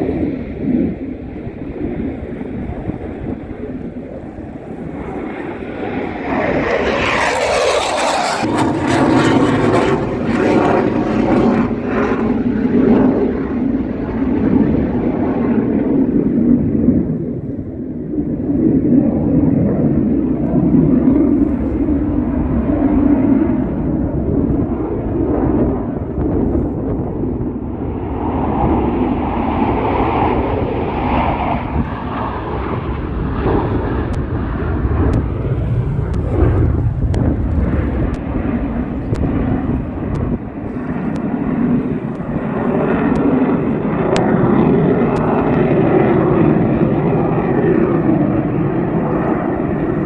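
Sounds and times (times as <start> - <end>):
jet aircraft flying over: 0.0 - 50.0.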